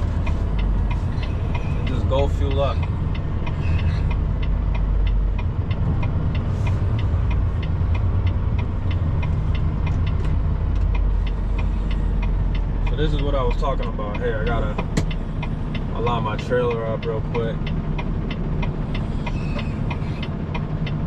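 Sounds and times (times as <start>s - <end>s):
diesel truck engine running: 0.0s - 21.0s
light ticking: 0.0s - 21.0s.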